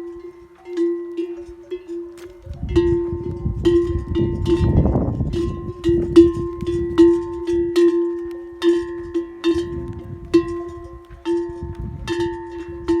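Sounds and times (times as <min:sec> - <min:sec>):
camel bell clanking: 0:00.0 - 0:13.0.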